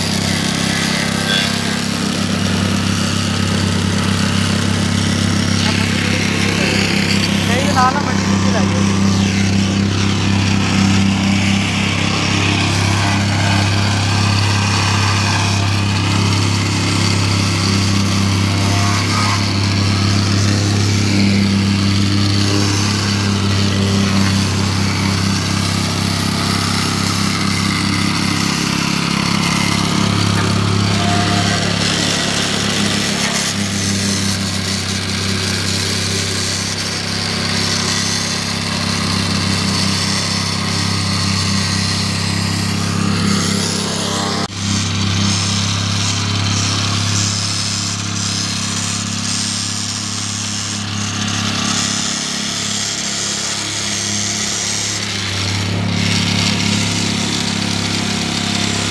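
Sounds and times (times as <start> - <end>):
plate compactor engine droning: 0.0 - 58.9.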